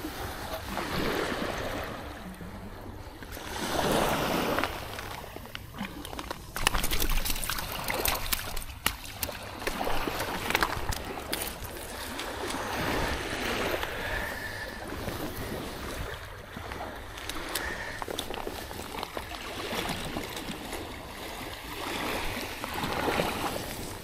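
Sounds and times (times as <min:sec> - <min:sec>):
surf washing on shore: 0:00.0 - 0:24.0
wind: 0:00.0 - 0:24.0.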